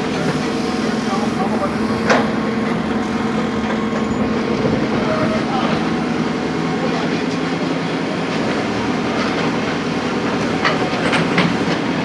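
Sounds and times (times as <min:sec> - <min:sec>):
engine chugging: 0:00.0 - 0:12.0.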